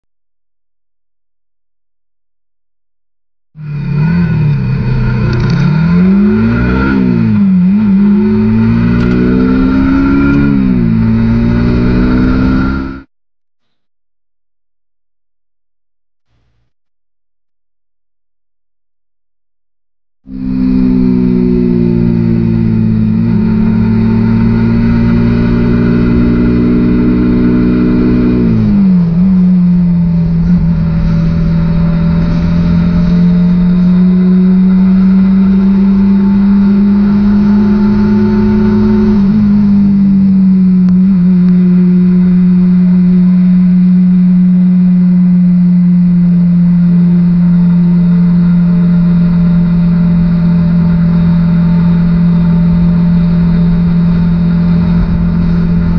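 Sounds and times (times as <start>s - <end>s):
motorcycle engine running: 3.6s - 13.1s, 20.3s - 55.9s.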